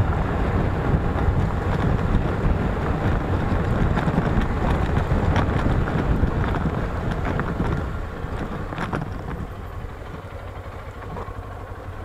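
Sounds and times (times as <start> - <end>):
wind rushing over microphone: 0.0 - 10.6
motorcycle engine running: 0.0 - 12.0.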